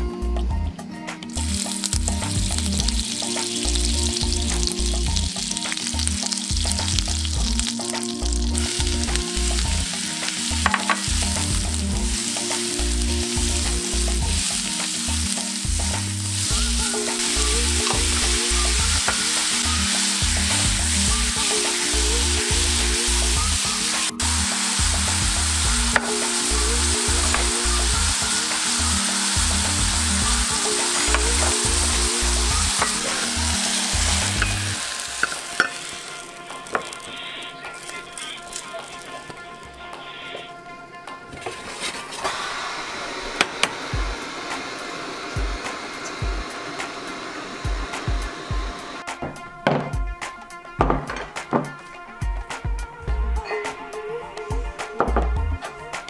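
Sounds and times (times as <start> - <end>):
background music: 0.0 - 56.0
butter sizzling in oil: 1.3 - 39.8, 41.4 - 49.1
vegetables stir-frying: 1.3 - 49.5.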